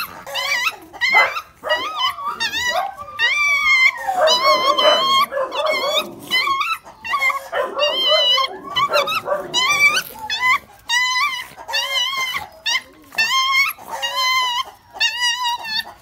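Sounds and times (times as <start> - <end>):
puppies yelping and whining: 0.0 - 16.0.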